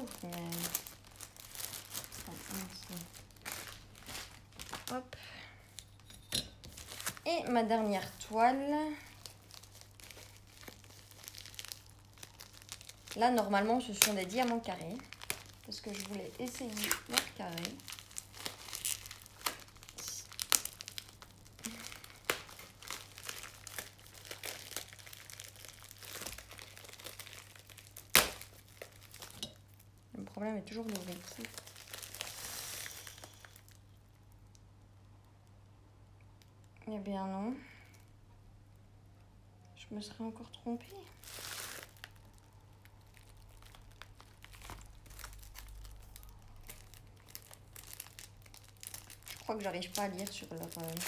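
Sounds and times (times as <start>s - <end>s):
plastic film crinkling: 0.0s - 34.6s, 40.6s - 51.0s.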